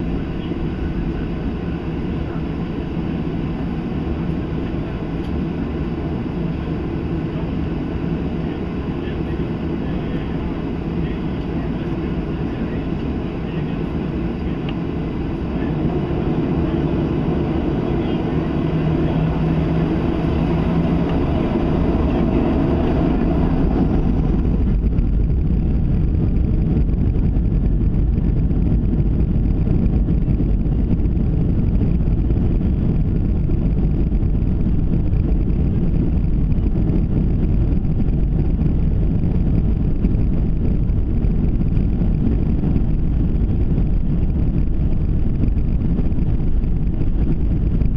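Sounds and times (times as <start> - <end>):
deep low cabin rumble: 0.0 - 47.9
jet engines at high thrust: 0.0 - 47.9.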